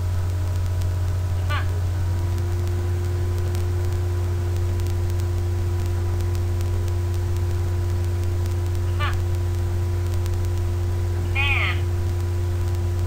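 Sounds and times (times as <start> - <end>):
mains hum: 0.0 - 13.0
static hiss: 0.0 - 13.0.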